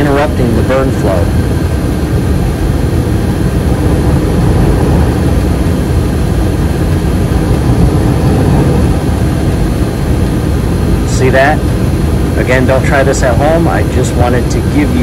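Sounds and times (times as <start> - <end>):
gas furnace droning: 0.0 - 15.0.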